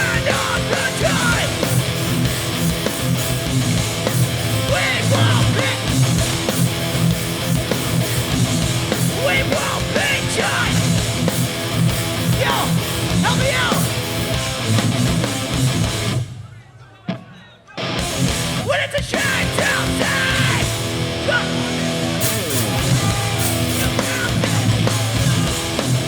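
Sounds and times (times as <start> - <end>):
bass guitar: 0.0 - 16.3, 17.8 - 26.0
distorted electric guitars: 0.0 - 16.4, 17.8 - 26.0
punk band playing live: 0.0 - 16.4, 17.8 - 26.0.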